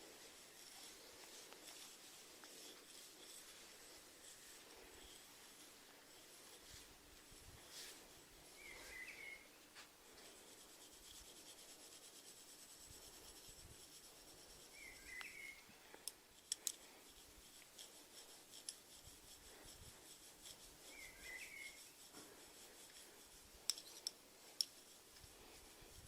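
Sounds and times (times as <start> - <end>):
faint hiss: 0.0 - 26.0.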